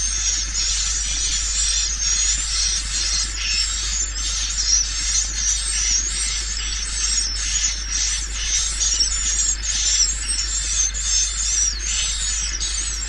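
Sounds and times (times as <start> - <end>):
high-pitched twittering chirps: 0.0 - 13.0
steady low hum: 0.0 - 13.0.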